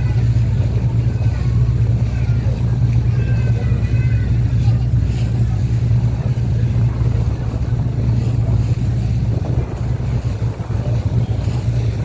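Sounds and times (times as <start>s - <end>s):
boat engine drone: 0.0s - 12.0s
rushing water noise: 0.0s - 12.0s.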